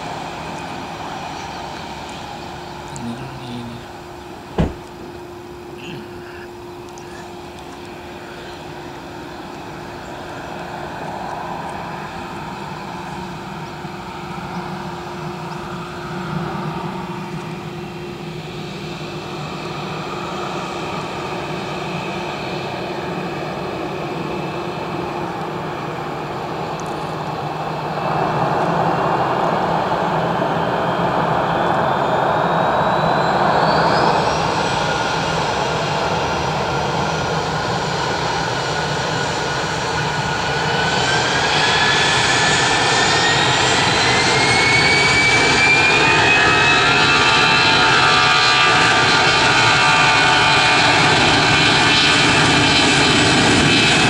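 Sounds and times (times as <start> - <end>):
jet engines spooling up: 0.0 - 54.0
jet engines taxi hum: 0.0 - 54.0.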